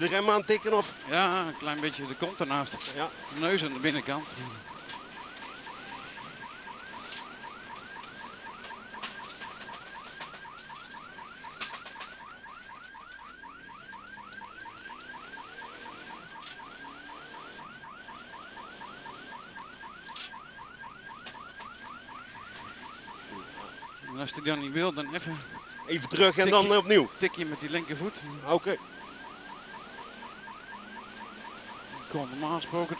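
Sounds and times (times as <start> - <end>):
siren yelping: 0.0 - 32.9.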